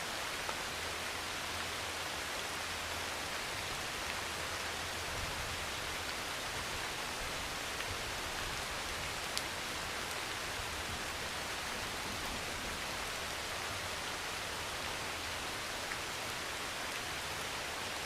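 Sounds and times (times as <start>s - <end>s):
heavy rain on a metal roof: 0.0s - 18.0s.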